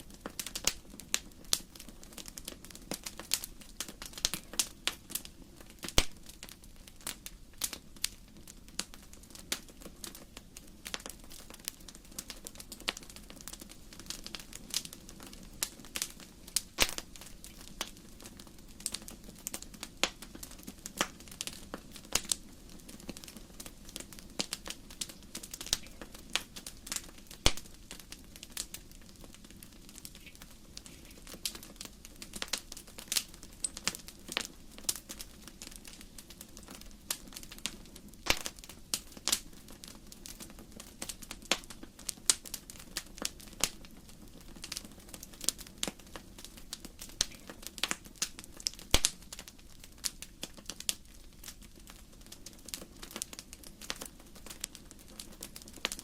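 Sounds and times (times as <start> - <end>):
faint low hiss: 0.0 - 56.0
wood fire crackling and popping: 0.0 - 56.0.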